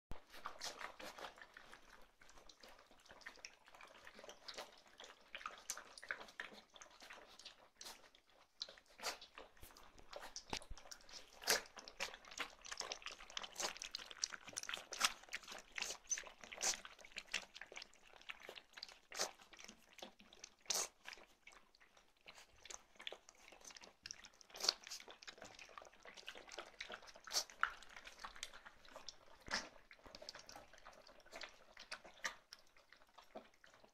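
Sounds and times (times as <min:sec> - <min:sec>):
puppies lapping milk: 0:00.1 - 0:33.9.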